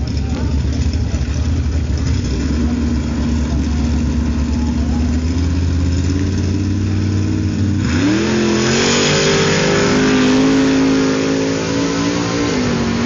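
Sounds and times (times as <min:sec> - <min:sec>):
drag car engine revving: 0:00.0 - 0:13.0.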